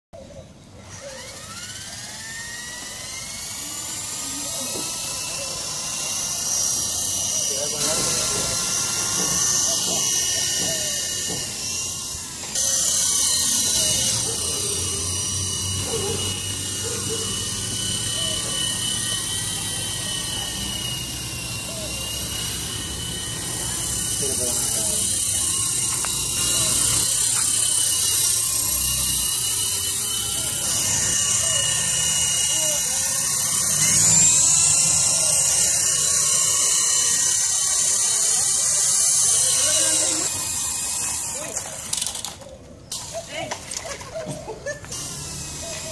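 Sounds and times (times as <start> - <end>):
toy helicopter motor whirring: 0.2 - 45.9.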